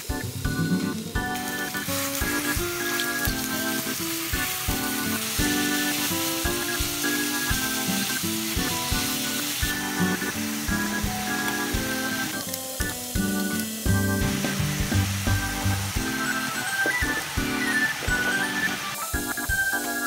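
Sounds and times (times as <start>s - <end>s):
background music: 0.0s - 20.0s
beef sizzling in a frying pan: 0.0s - 20.0s.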